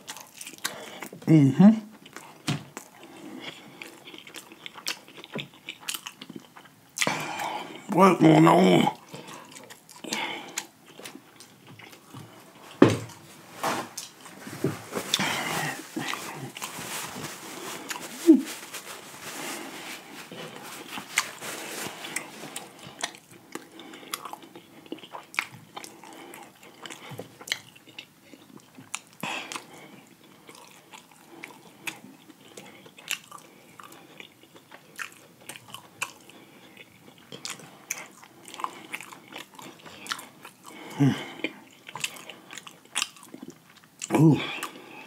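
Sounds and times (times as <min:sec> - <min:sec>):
man chewing crispy chicken: 0:00.0 - 0:01.3, 0:01.9 - 0:07.9, 0:08.6 - 0:45.0.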